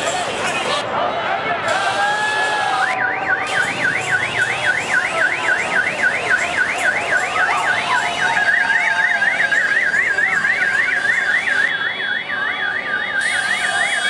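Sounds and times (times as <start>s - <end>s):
car alarm siren: 1.8s - 14.0s.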